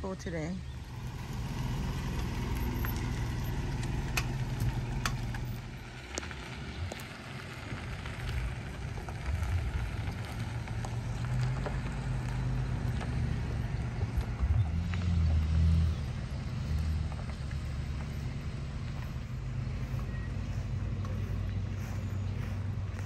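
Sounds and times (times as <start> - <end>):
vehicle engine drone: 0.0 - 23.0.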